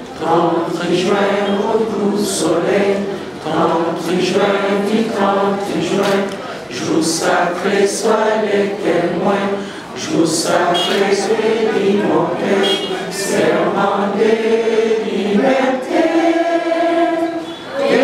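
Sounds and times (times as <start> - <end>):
group singing unaccompanied: 0.0 - 18.0.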